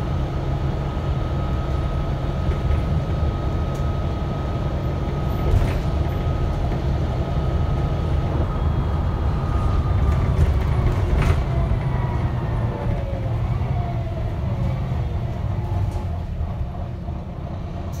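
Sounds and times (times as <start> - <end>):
bus diesel engine rumble: 0.0 - 18.0
road noise: 0.0 - 18.0.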